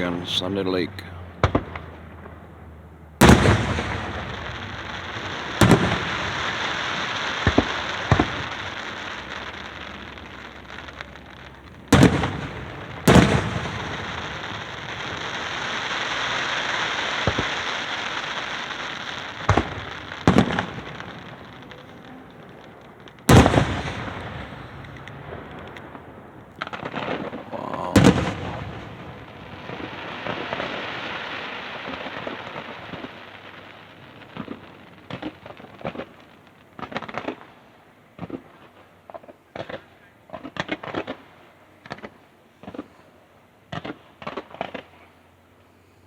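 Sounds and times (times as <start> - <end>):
fireworks bangs: 0.0 - 42.9, 43.7 - 45.0
fireworks crackling hiss: 0.0 - 46.0.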